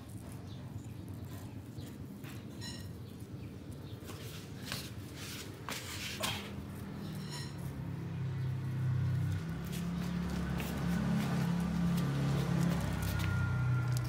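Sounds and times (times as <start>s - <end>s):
turtle claws on tiles: 0.0s - 14.0s.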